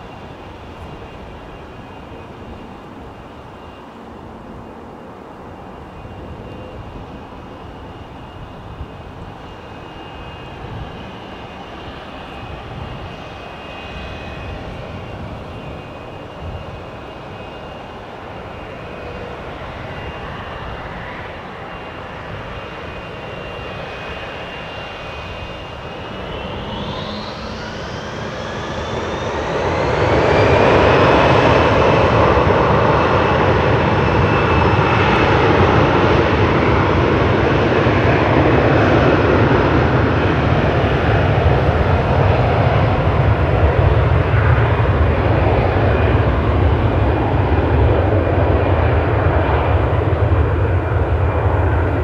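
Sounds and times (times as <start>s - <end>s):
jet engine rush: 0.0s - 52.0s
jet engines whining: 0.0s - 52.0s.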